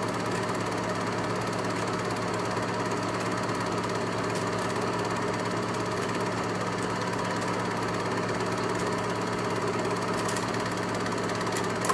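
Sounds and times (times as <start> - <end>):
film projector whirring: 0.0 - 11.9.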